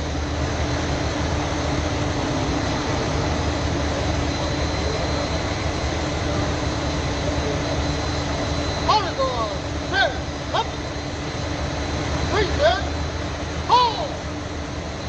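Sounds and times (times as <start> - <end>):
large engine rumbling: 0.0 - 15.0.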